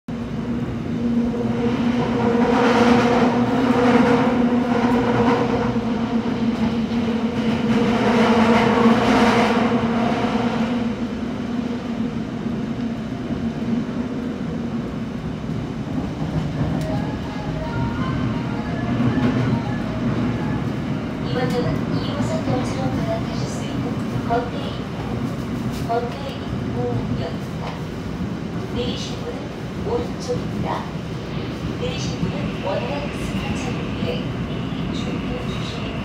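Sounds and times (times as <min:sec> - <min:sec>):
subway motor hum: 0:00.1 - 0:36.0.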